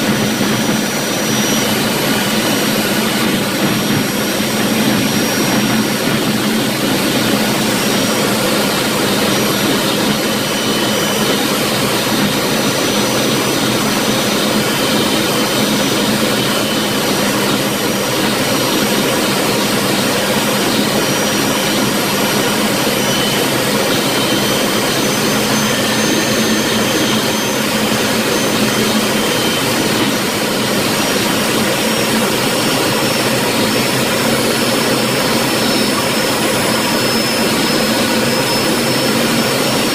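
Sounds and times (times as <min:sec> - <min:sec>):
high turbine whine: 0:00.0 - 0:39.9
jet engine and airflow rush: 0:00.0 - 0:39.9.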